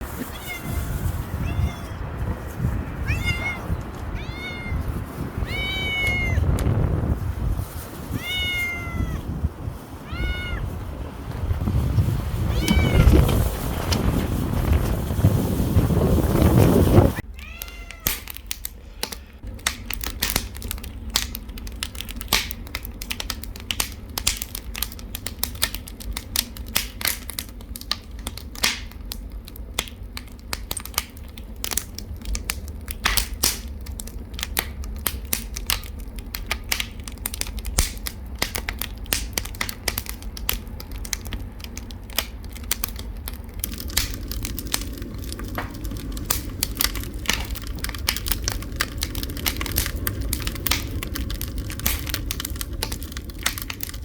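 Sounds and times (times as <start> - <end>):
low rumble of stove: 0.0 - 54.0
wood fire crackling and popping: 0.0 - 54.0.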